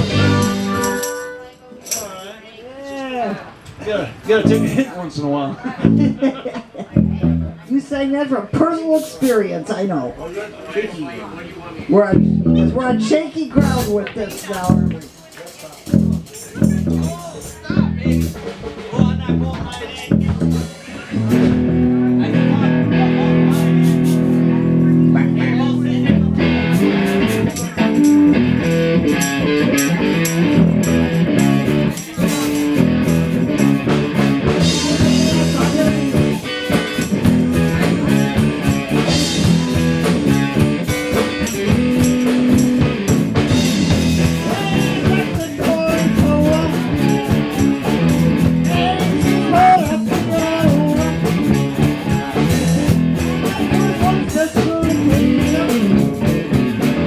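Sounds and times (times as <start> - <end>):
drum kit: 0.0 - 1.4, 4.3 - 4.9, 5.7 - 6.2, 12.2 - 57.0
electric guitar: 0.0 - 1.6, 4.3 - 4.8, 5.7 - 6.2, 6.9 - 7.7, 12.1 - 15.0, 15.8 - 57.0.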